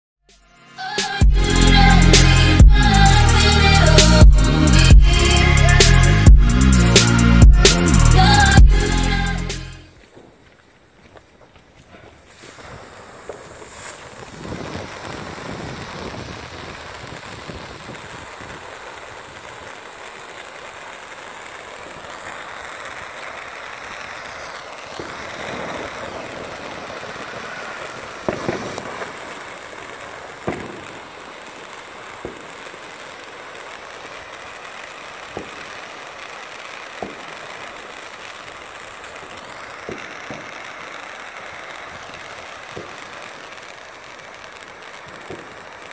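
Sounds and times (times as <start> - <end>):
fountain firework hissing: 0.8 - 45.9
firework pops and crackles: 1.0 - 45.9.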